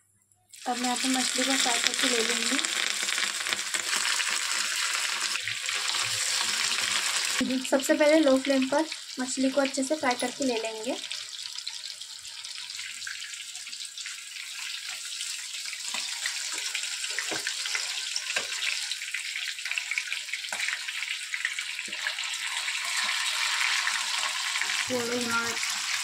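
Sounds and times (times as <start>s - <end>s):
fish frying in hot oil: 0.5s - 26.0s.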